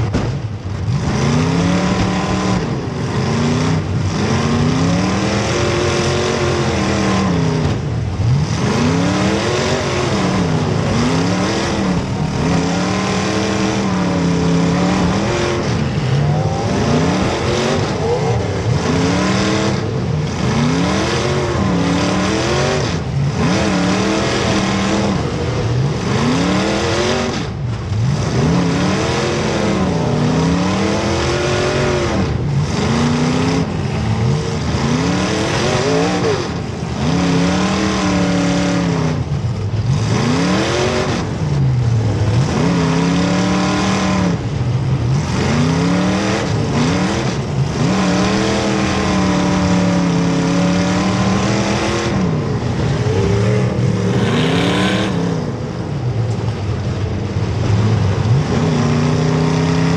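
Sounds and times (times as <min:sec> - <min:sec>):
car engines revving hard: 0:00.0 - 0:59.9
drone of engines running: 0:00.0 - 0:59.9.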